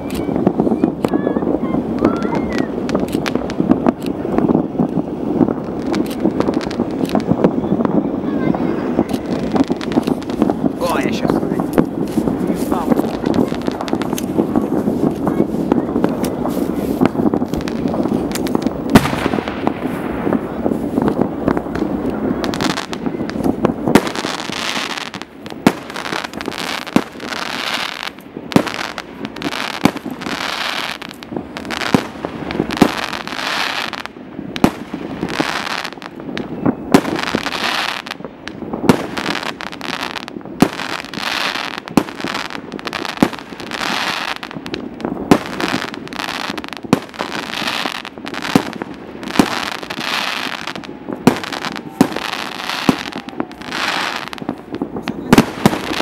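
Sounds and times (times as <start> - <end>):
fireworks bangs: 0.0 - 56.0
crackle of bursting shells: 9.1 - 56.0.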